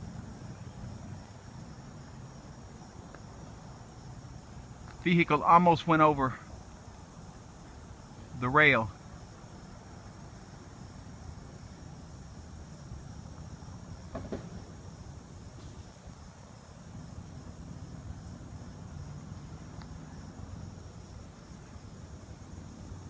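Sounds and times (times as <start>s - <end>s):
distant road traffic: 0.0s - 23.0s
insects chirring: 0.0s - 23.0s.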